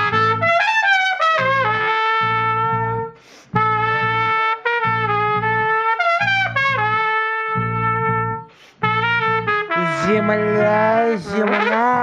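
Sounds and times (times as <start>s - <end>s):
trumpet playing long notes: 0.0s - 12.0s
bass playing low notes: 1.4s - 12.0s.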